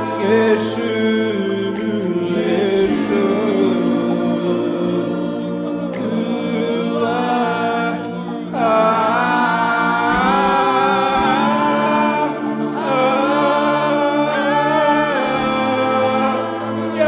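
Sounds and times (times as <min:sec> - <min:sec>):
held chords: 0:00.0 - 0:17.0
person singing wordlessly: 0:00.0 - 0:17.0.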